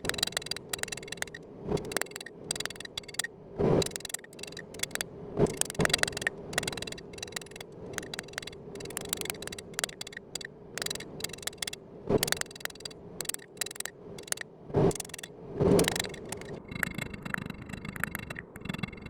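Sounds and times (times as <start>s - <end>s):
hand tool clicks and scrapes: 0.0s - 16.9s
faint steady hum: 0.0s - 19.0s.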